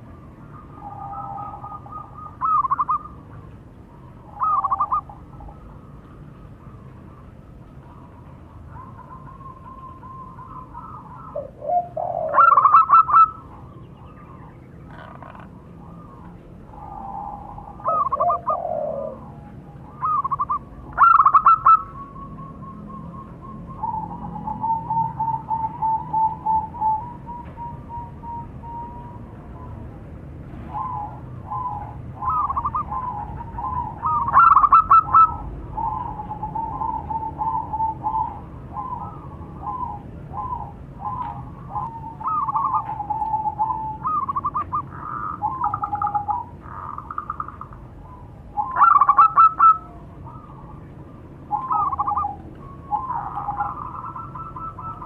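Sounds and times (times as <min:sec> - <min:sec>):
doves cooing: 0:00.0 - 0:30.0, 0:30.6 - 0:55.0.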